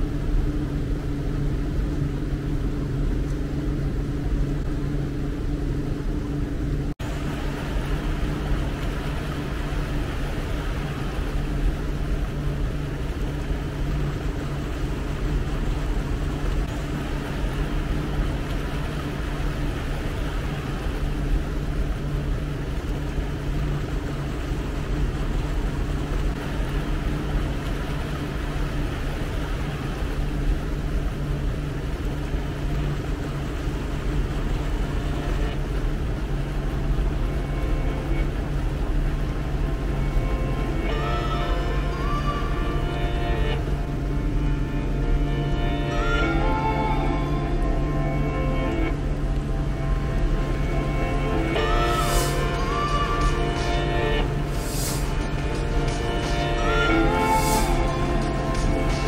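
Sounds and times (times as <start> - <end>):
boat engine humming: 0.0 - 59.0
rushing water: 0.0 - 59.0
wind: 0.0 - 59.0.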